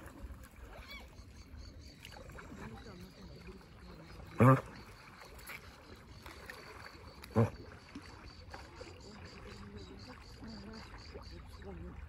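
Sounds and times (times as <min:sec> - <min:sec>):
water sloshing from swimming: 0:00.0 - 0:12.0.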